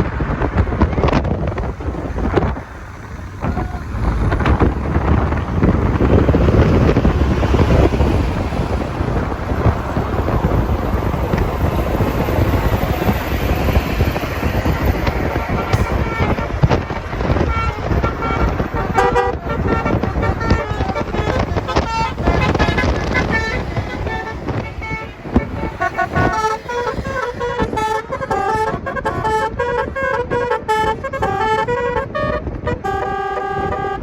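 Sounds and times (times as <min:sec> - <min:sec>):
vehicle road and engine noise: 0:00.0 - 0:34.0
wind buffeting microphone: 0:00.0 - 0:34.0.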